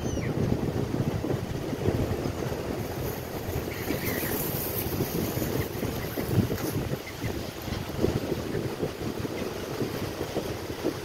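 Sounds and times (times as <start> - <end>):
wind buffeting microphone: 0.0 - 11.0
small waves washing on shore: 0.1 - 11.0.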